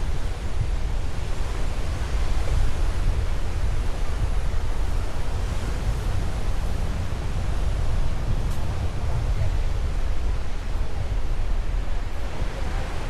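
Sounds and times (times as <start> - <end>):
surf washing on a beach: 0.0 - 13.0
wind buffeting microphone: 0.0 - 13.0.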